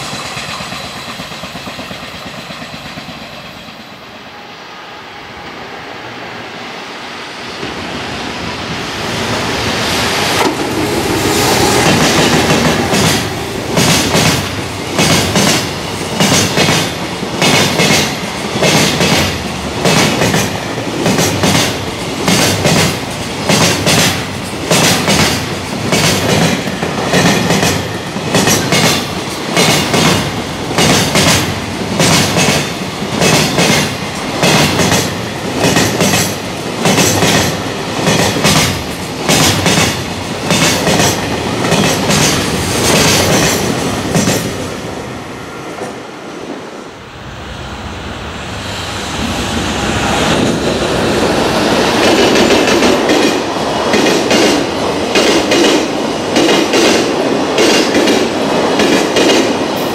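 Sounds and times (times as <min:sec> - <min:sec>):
train wheels clacking over rail joints: 0:00.0 - 0:03.8, 0:10.1 - 0:44.6, 0:49.9 - 0:59.9
freight train passing: 0:00.0 - 0:59.9.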